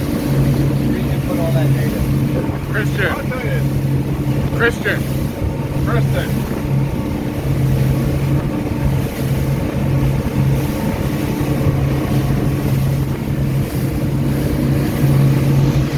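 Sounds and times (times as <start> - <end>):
motorboat engine running: 0.0 - 15.9.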